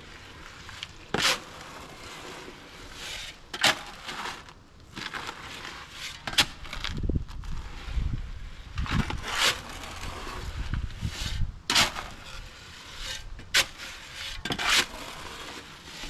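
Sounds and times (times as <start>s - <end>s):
tool scraping wet concrete: 0.0s - 16.0s.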